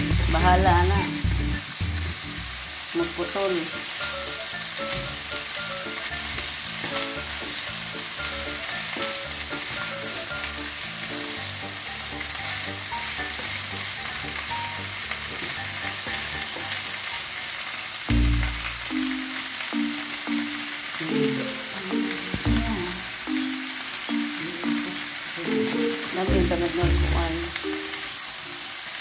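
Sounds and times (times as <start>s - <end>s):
background music: 0.0s - 17.0s, 18.1s - 28.2s
vegetables sizzling in a frying pan: 0.0s - 29.0s.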